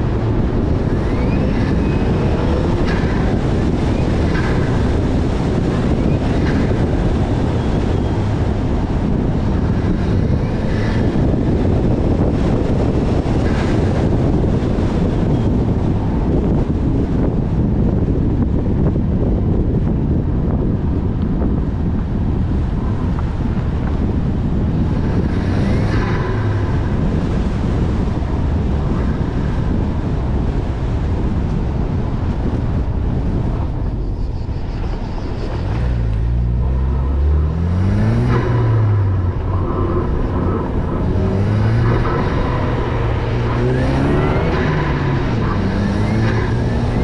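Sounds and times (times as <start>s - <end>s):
car engine accelerating: 0.0s - 33.9s, 34.8s - 47.0s
wind noise on microphone: 0.0s - 47.0s.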